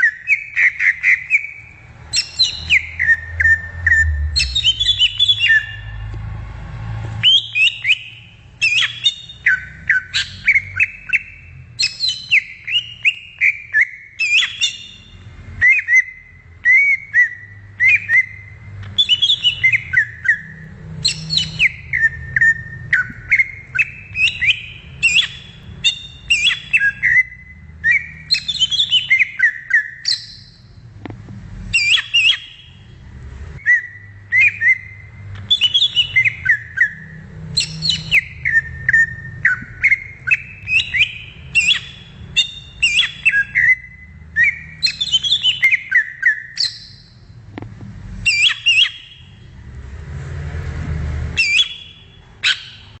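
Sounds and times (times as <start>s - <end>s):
bird singing whistled notes: 0.0s - 6.1s, 7.2s - 30.8s, 31.7s - 32.9s, 33.6s - 47.4s, 48.2s - 49.5s, 51.4s - 53.0s.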